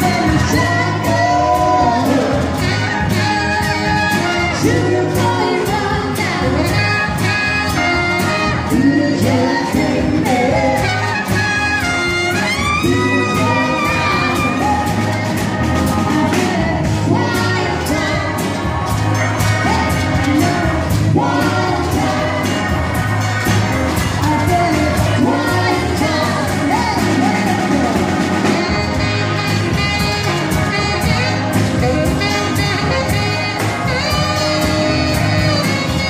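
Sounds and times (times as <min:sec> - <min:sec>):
drum kit beat: 0:00.0 - 0:36.0
person singing: 0:00.0 - 0:36.0
saxophone: 0:00.0 - 0:36.0.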